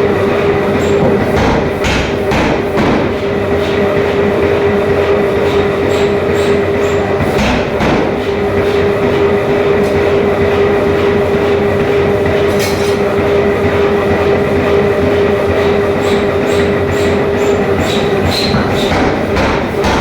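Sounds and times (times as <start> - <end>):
mechanical din with hum: 0.0 - 20.0.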